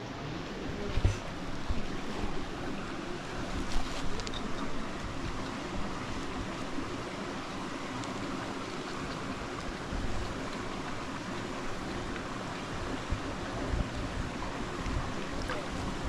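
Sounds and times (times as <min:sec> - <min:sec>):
wind buffeting microphone: 0:00.6 - 0:07.1, 0:09.2 - 0:16.0.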